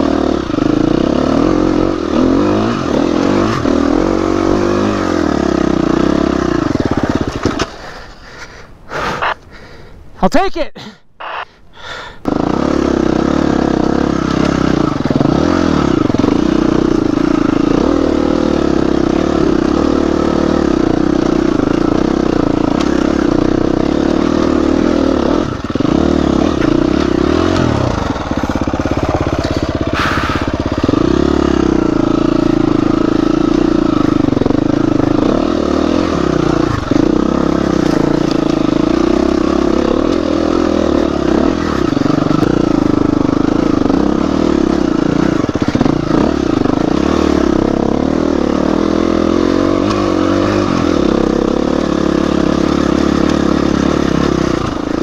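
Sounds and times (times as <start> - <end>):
dirt bike engine revving: 0.0 - 8.0, 12.2 - 55.0.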